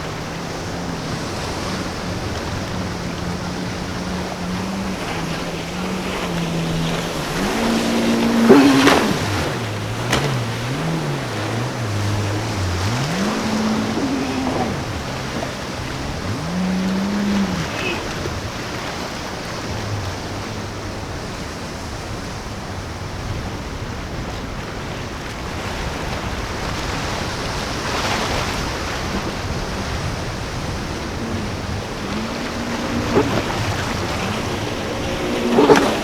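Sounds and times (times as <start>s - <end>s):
breaking surf: 0.0s - 22.3s, 25.9s - 36.0s
boat engine revving: 0.0s - 24.6s, 25.2s - 36.0s
rush of water: 0.0s - 36.0s.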